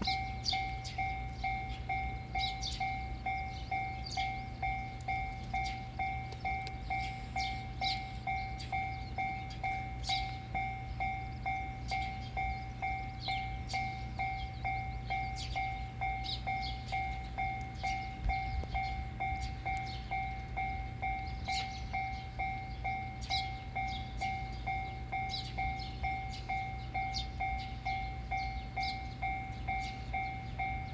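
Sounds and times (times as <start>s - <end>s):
level crossing warning bell: 0.0s - 30.9s.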